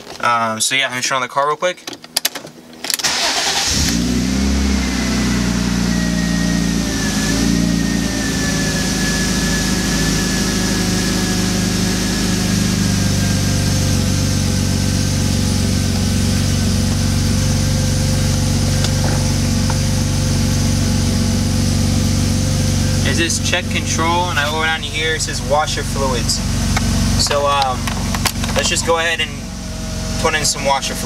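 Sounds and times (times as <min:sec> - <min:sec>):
car engine starting and idling: 0:02.0 - 0:31.0.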